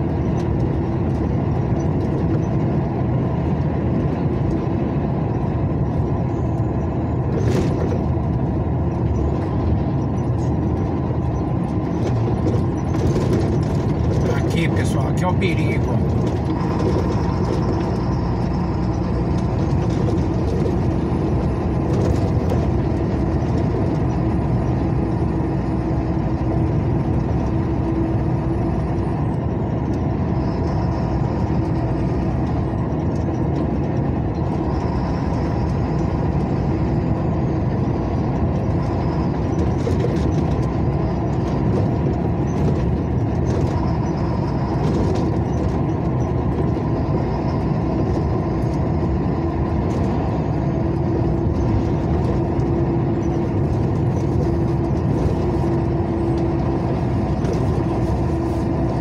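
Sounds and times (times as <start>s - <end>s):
vehicle engine and tyre noise: 0.0s - 59.0s.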